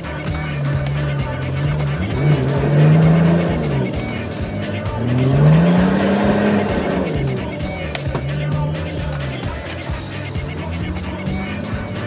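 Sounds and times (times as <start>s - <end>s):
engine revving under load: 0.0s - 12.0s
music: 0.0s - 12.0s.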